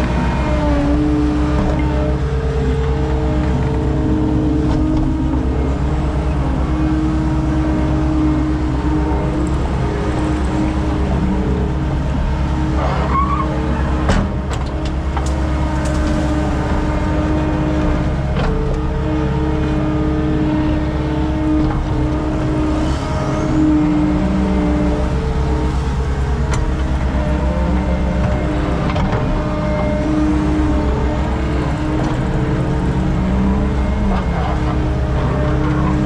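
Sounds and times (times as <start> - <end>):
skid steer engine running: 0.0 - 36.0.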